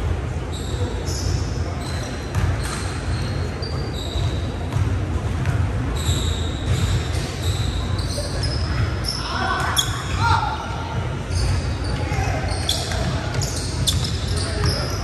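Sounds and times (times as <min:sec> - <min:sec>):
sneakers squeaking on wooden floor: 0:00.5 - 0:10.3, 0:11.2 - 0:15.0.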